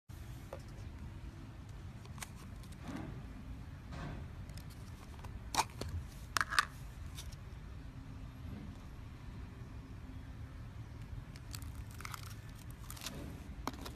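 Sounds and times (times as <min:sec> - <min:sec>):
low steady hum: 0:00.1 - 0:13.9.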